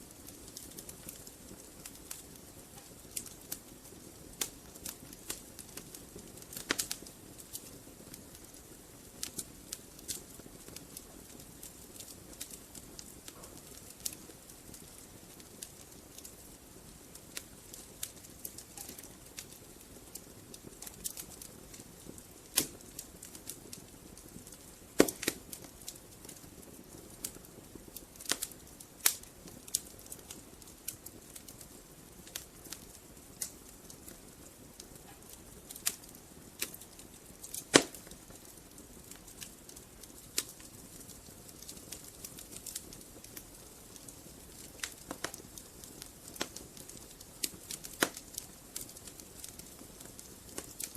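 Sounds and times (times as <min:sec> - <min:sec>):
burning logs crackling and popping: 0:00.0 - 0:50.9
fire hissing: 0:00.1 - 0:50.9.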